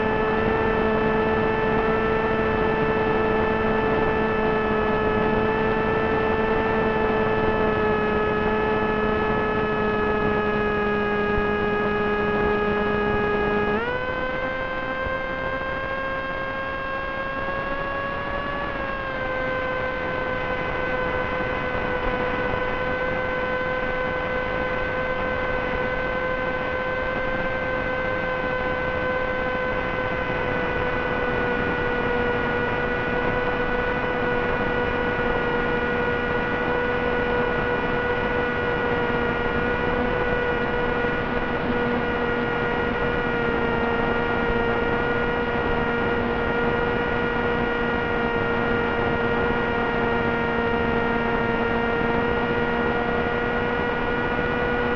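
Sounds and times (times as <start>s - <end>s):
electric motor propeller drone: 0.0s - 54.9s.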